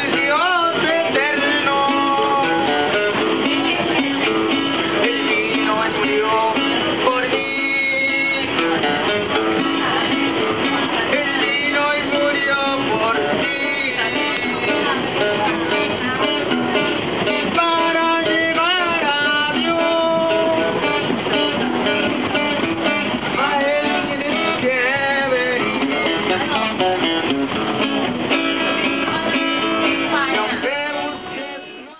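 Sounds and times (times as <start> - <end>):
person singing: 0.0 - 21.1, 23.3 - 27.1, 28.5 - 31.9
acoustic guitar strumming: 0.0 - 31.9.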